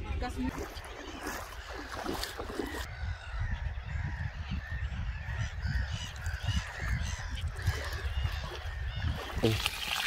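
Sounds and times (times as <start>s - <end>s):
birds calling: 0.5s - 10.0s.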